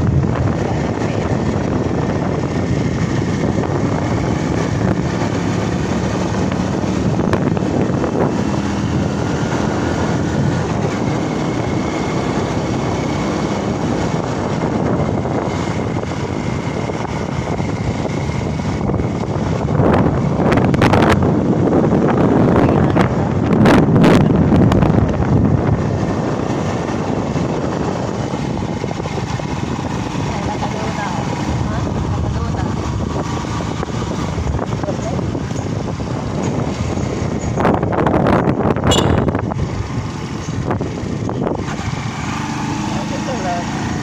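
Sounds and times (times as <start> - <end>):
vehicle engine running: 0.0 - 44.0
wind buffeting microphone: 0.0 - 44.0.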